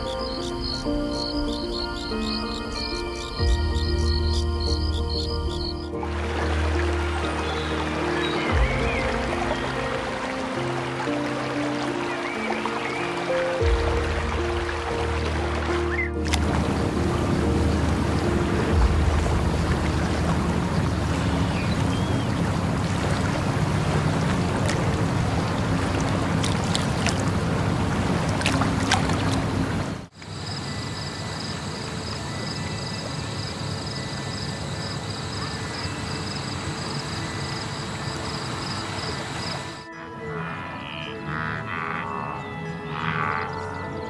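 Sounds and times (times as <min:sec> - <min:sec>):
water rushing and lapping: 0:00.0 - 0:44.0.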